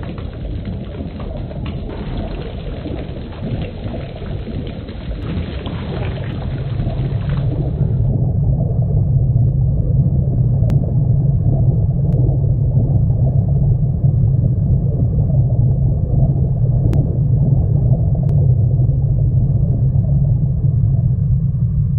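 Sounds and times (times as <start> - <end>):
deep steady rumble: 0.0 - 21.9.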